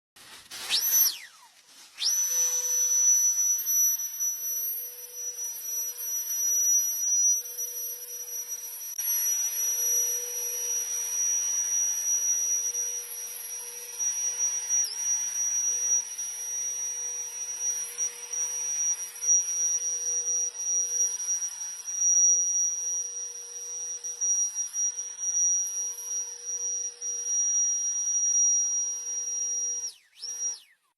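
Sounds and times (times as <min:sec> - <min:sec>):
turbo fan high-pitched whine: 0:00.6 - 0:30.6.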